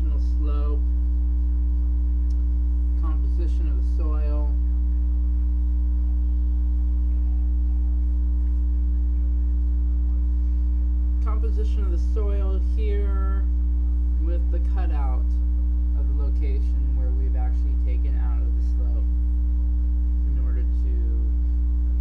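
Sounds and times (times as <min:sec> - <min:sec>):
low electrical mains hum: 0:00.0 - 0:22.0.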